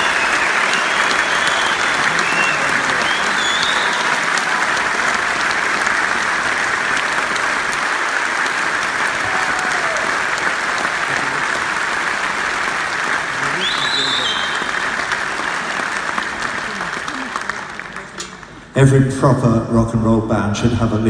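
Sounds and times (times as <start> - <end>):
crowd applauding: 0.0 - 18.7.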